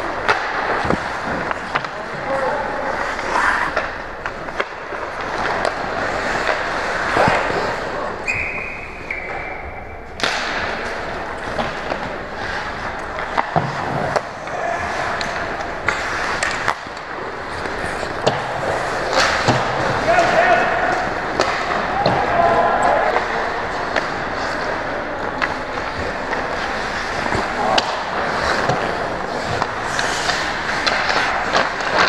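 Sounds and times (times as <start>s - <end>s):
hockey sticks and puck clacking: 0.0s - 32.0s
skate blades scraping ice: 0.2s - 8.2s, 10.2s - 32.0s.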